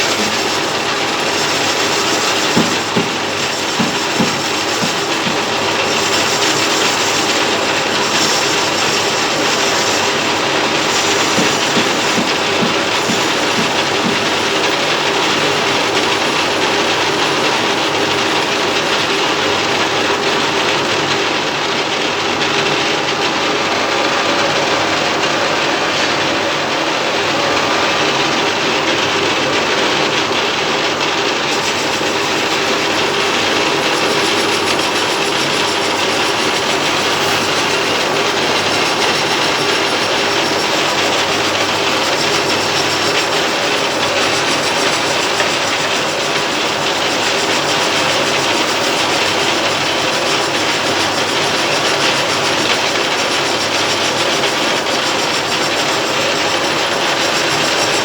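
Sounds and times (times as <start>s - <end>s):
metal lathe running: 0.0s - 58.0s.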